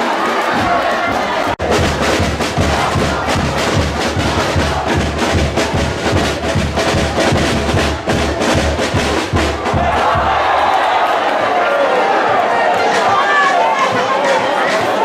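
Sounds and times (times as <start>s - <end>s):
crowd noise: 0.0s - 15.0s
drums beating fast rhythm: 0.0s - 15.0s.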